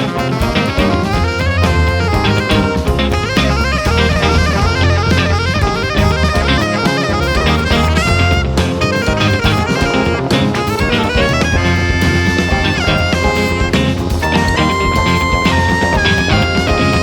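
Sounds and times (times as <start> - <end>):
live jazz band: 0.0 - 17.0
saxophone quick lines: 0.0 - 17.0.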